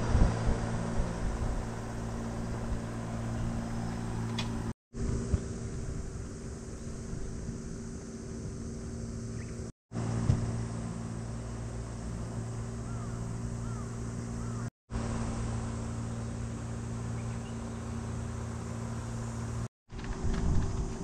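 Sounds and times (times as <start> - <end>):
electric fan humming: 0.0 - 21.0.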